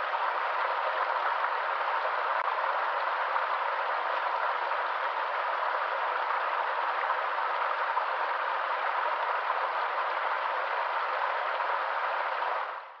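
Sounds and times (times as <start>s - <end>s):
river water flowing: 0.0s - 12.9s.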